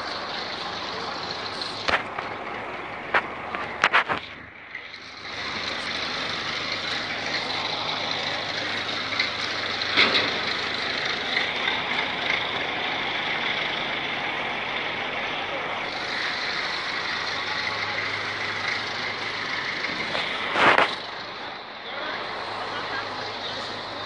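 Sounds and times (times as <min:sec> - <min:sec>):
truck engine idling: 0:00.0 - 0:24.0.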